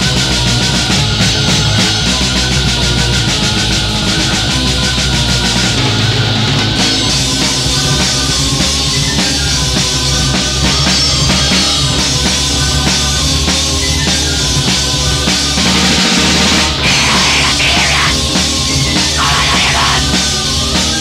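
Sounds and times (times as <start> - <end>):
drum kit: 0.0 - 21.0
loud distorted guitars and bass: 0.0 - 21.0.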